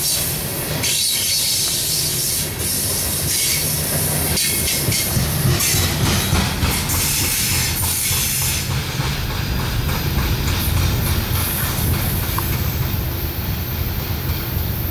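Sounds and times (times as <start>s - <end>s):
train wheels clacking on rails: 0.0s - 14.9s.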